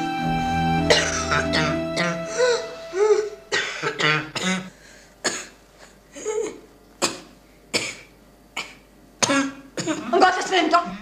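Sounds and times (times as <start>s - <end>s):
boy coughing: 0.9s - 5.6s, 6.2s - 10.6s.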